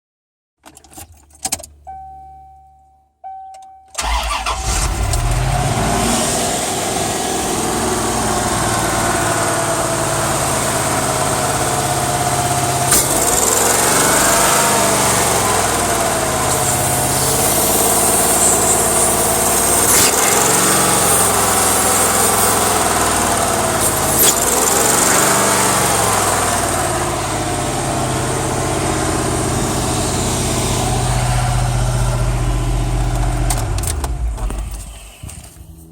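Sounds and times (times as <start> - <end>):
car engine starting and idling: 0.6 - 35.9.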